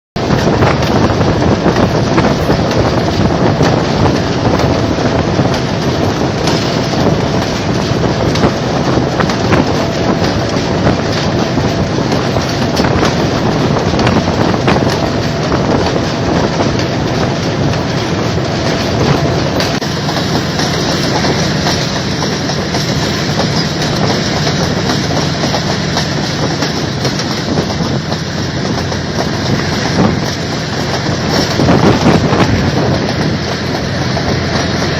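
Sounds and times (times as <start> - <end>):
train wheels rumbling on rail: 0.2 - 34.9.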